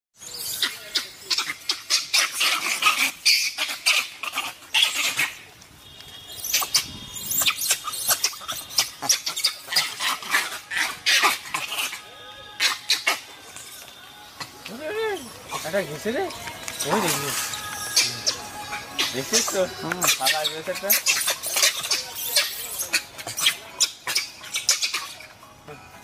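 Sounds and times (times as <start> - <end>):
monkeys crying harshly: 0.2 - 5.5, 6.3 - 26.0.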